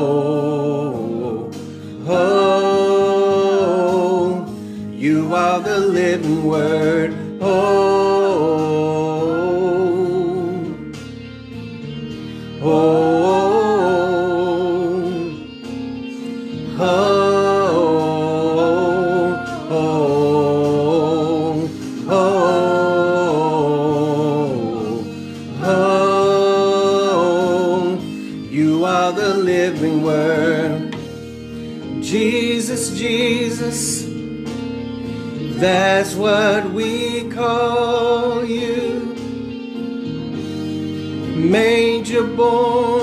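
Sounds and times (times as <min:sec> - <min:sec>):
man and woman singing gospel: 0:00.0 - 0:11.0, 0:12.5 - 0:15.5, 0:16.6 - 0:34.2, 0:35.4 - 0:39.6, 0:41.2 - 0:43.0
instrumental accompaniment: 0:00.0 - 0:43.0.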